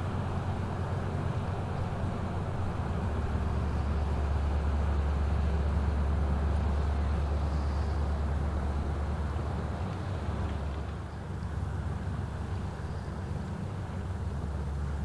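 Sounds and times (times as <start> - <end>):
ship diesel engine drone: 0.0 - 15.0.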